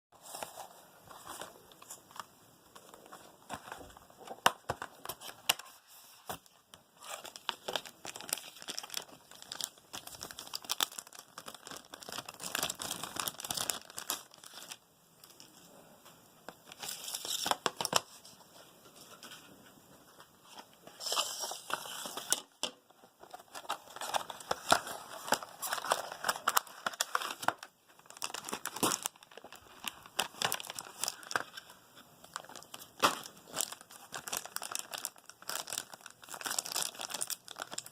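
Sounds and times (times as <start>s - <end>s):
packaging crinkling and tearing: 2.8s - 15.4s, 16.6s - 18.1s, 21.0s - 22.5s, 23.2s - 37.9s.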